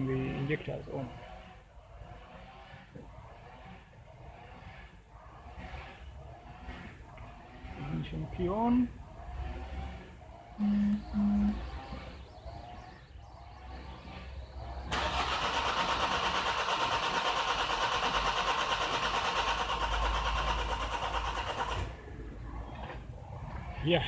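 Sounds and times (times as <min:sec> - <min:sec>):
starter motor cranking engine: 0:00.0 - 0:24.0.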